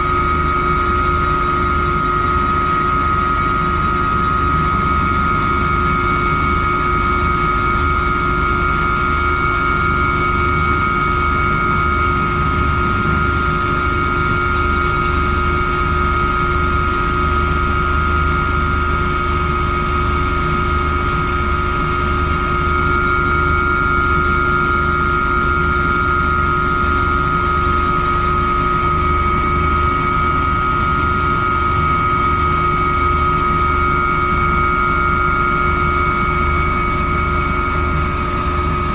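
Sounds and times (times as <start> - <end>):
machine drone with high whine: 0.0 - 38.9.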